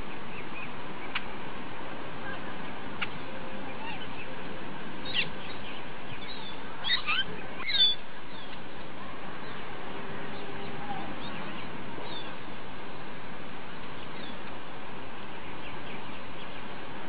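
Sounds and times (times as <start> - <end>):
small birds chirping: 0.0 - 1.5, 2.1 - 17.0
steady background noise: 0.0 - 17.0.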